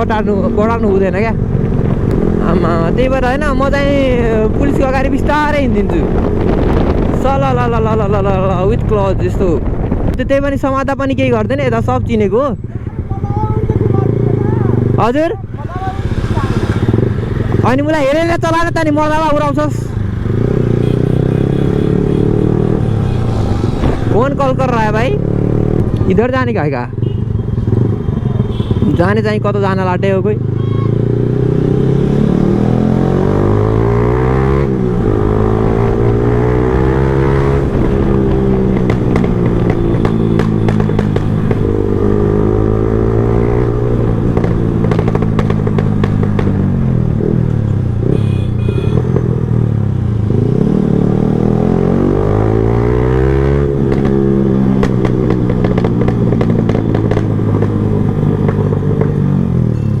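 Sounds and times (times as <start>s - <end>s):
motorcycle engine revving: 0.0s - 8.7s, 12.6s - 60.0s.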